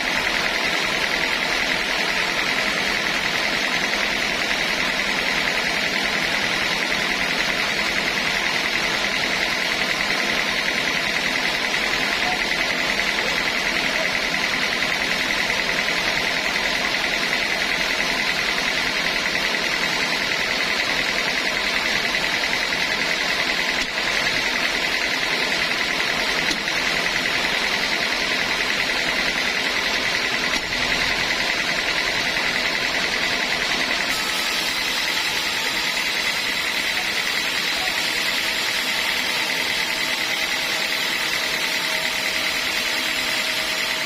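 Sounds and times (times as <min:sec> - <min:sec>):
sawmill saw whining: 0:00.0 - 0:44.0.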